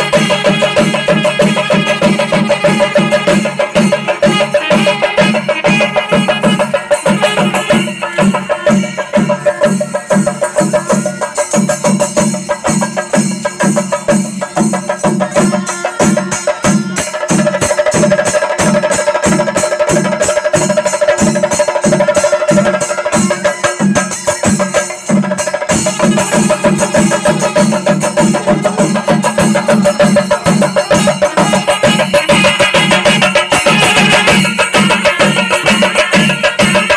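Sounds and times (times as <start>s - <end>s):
drum ensemble playing fast beat: 0.0s - 36.9s.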